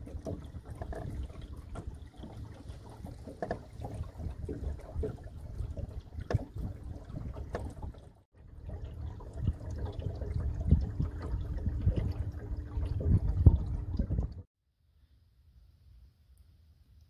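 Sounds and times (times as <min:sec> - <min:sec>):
water lapping against boat hull: 0:00.0 - 0:14.5
wind rumble on microphone: 0:00.0 - 0:14.5.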